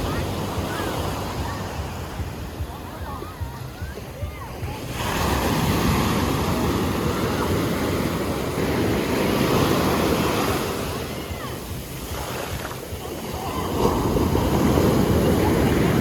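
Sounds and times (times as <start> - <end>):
sea waves breaking on beach: 0.0 - 16.0
wind buffeting microphone: 0.0 - 16.0.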